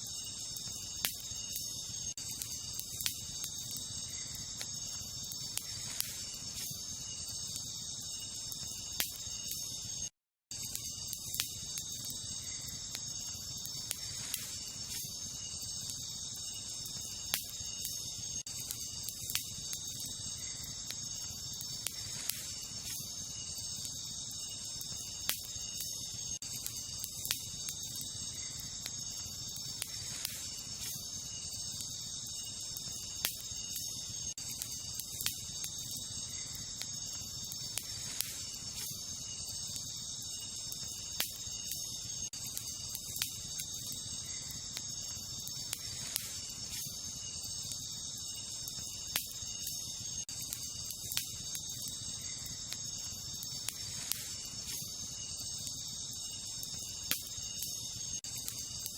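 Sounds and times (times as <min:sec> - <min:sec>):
campfire crackling and popping: 0:00.0 - 0:58.9
crickets chirping: 0:00.0 - 0:58.9.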